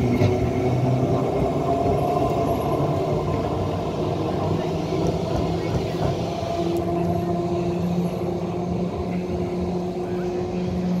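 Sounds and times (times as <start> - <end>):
tram low hum: 0.0 - 11.0.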